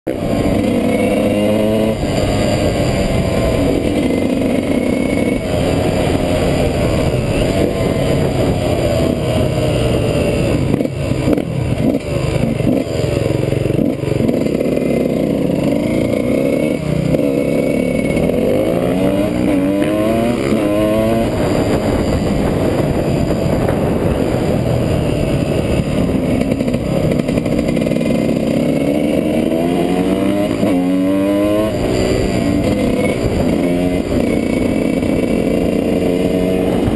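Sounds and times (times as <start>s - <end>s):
dirt bike engine accelerating: 0.1s - 36.9s.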